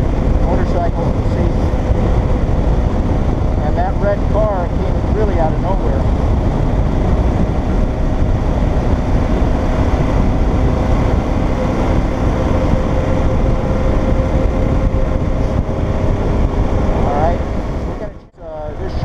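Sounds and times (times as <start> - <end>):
motorcycle engine drone: 0.0 - 19.0
wind rush on microphone: 0.0 - 19.0.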